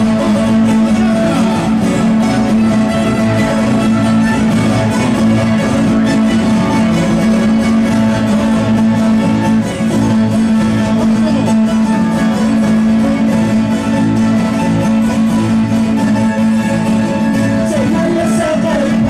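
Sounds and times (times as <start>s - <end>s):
live band with strings: 0.0s - 19.0s.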